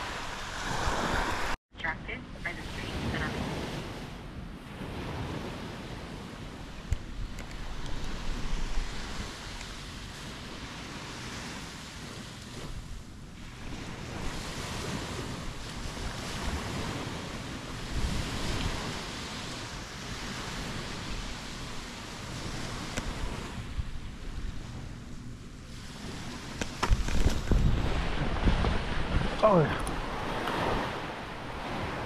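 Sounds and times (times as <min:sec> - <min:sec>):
waves breaking on a beach: 0:00.0 - 0:32.0
wind buffeting microphone: 0:02.4 - 0:32.0.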